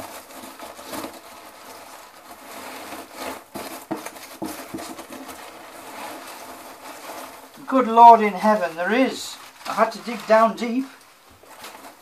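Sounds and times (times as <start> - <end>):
cardboard and packing rustling: 0.0 - 12.0
sharp crackles: 0.0 - 12.0.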